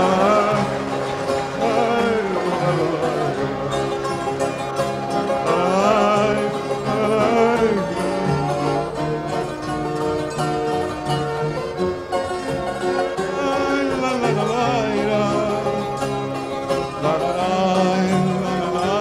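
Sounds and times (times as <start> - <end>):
folk band with plucked strings: 0.0 - 19.0
wavering sliding melody: 0.0 - 19.0.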